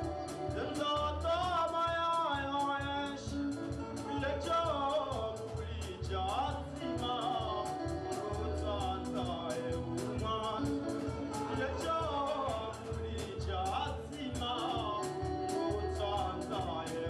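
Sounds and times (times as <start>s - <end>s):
man singing into a microphone: 0.0s - 17.0s
percussion and bass beat: 0.0s - 17.0s.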